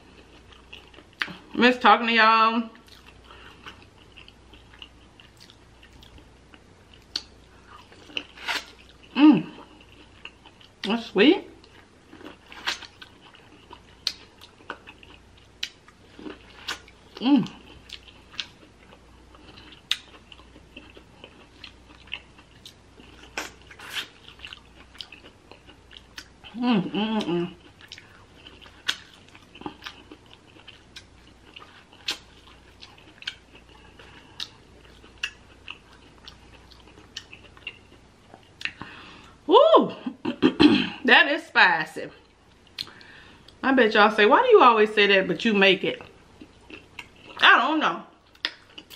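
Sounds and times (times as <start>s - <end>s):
person chewing corn: 0.0s - 1.6s, 2.8s - 10.9s, 11.6s - 39.4s, 42.2s - 43.6s, 46.0s - 47.4s, 48.2s - 48.9s.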